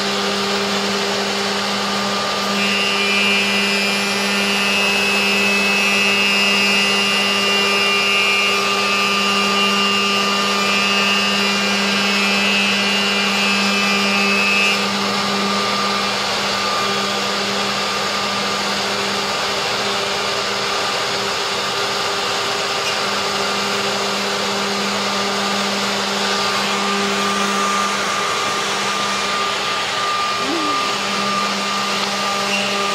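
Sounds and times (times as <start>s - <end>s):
router spindle hum and whine: 0.0s - 32.9s.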